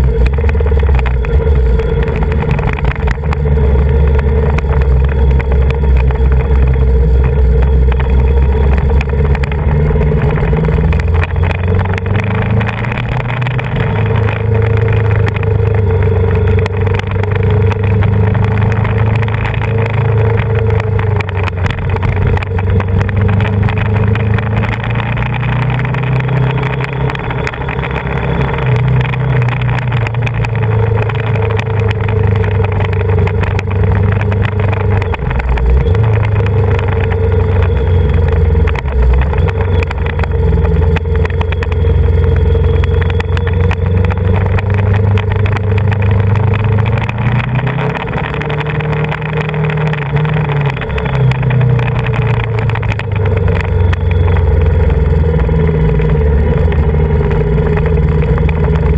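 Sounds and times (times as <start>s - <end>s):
motorcycle engine running: 0.0s - 58.9s
road noise: 0.0s - 58.9s
wind: 0.0s - 58.9s.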